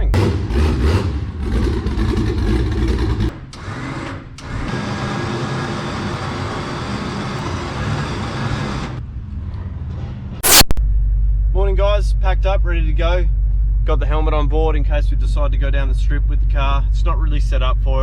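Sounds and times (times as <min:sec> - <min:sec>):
pulsing engine rumble: 0:00.0 - 0:03.6, 0:04.4 - 0:18.0
engine drone with road noise: 0:00.0 - 0:18.0.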